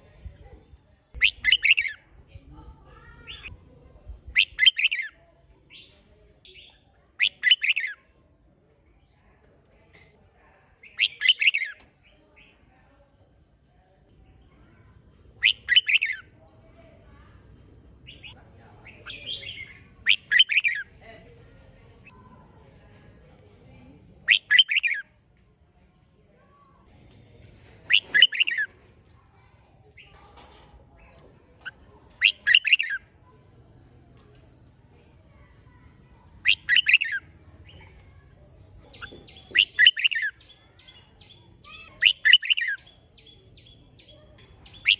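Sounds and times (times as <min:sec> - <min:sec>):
bird song phrases: 0:00.0 - 0:08.2, 0:08.8 - 0:25.2, 0:25.8 - 0:44.9.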